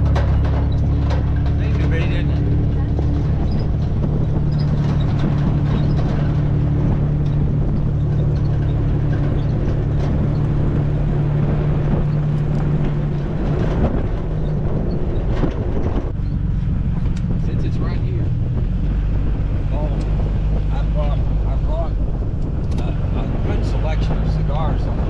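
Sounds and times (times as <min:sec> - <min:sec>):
tyre and road noise: 0:00.0 - 0:25.0
vehicle engine droning: 0:00.0 - 0:25.0.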